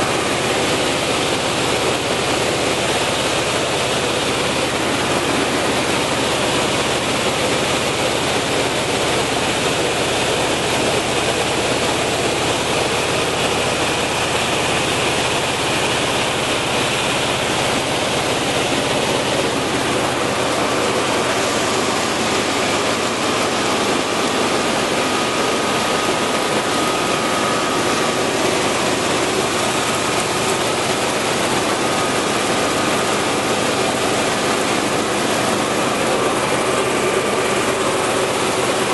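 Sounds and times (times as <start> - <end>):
grain cleaning machine running: 0.0 - 38.9.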